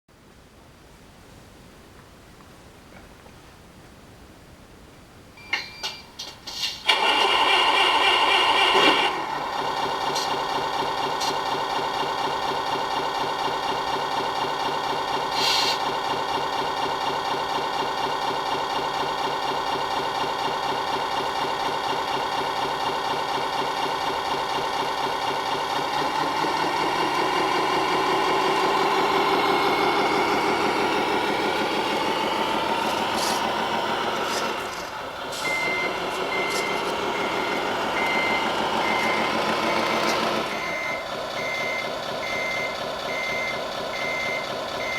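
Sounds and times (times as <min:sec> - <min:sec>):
simulated truck engine idling: 0:06.0 - 0:44.9.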